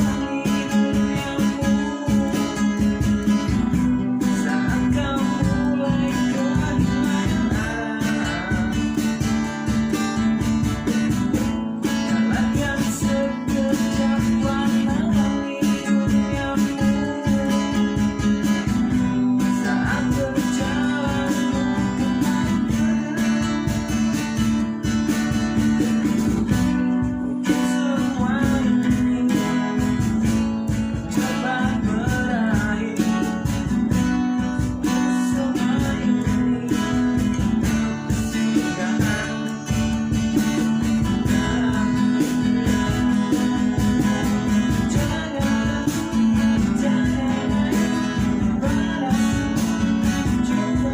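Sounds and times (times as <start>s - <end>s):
acoustic guitars strumming: 0.0s - 50.9s
cajon beat: 0.0s - 50.9s.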